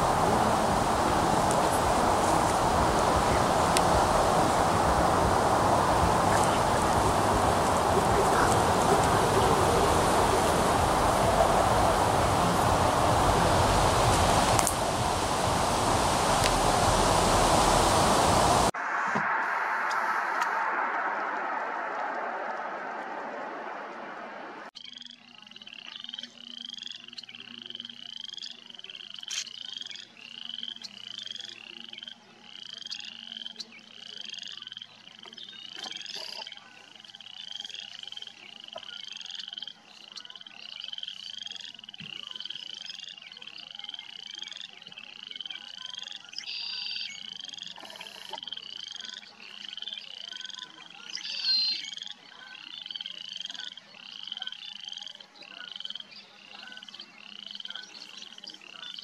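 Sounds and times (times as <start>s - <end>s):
frog calling: 0.0s - 18.7s, 24.8s - 59.0s.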